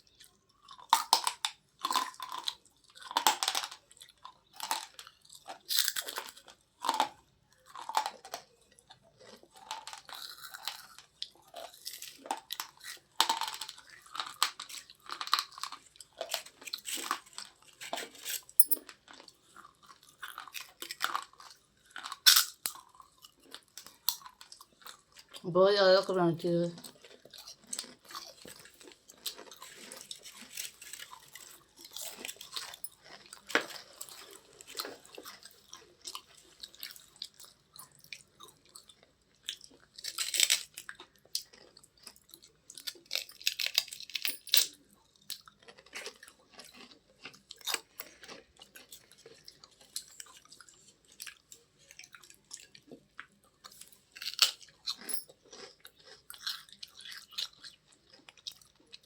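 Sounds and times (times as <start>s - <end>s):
crunching and chewing chips: 0.0s - 25.5s, 26.5s - 59.0s.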